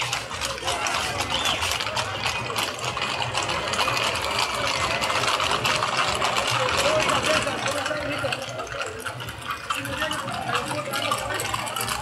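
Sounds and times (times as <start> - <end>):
faint crowd voices: 0.0 - 12.0
hooves clattering on pavement: 0.0 - 12.0.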